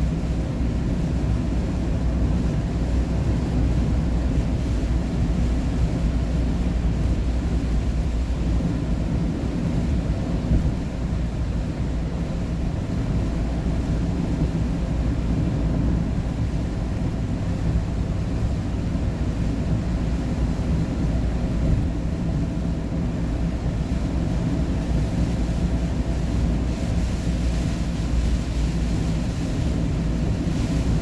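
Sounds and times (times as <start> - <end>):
constant low hum: 0.0 - 31.0
engine and road noise in cabin: 0.0 - 31.0.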